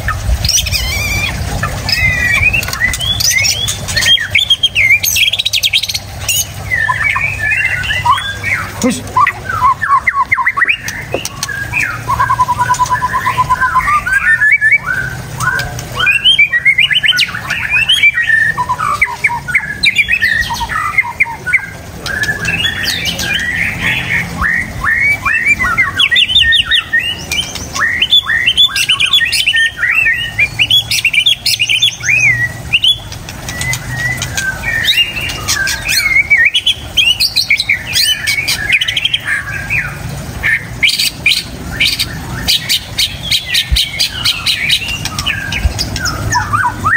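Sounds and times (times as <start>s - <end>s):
bird singing whistled song: 0.4s - 46.9s.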